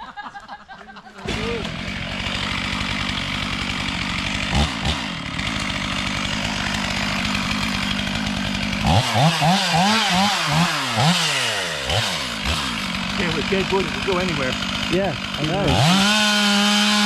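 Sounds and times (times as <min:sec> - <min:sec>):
chainsaw idling and revving: 0:01.2 - 0:17.0.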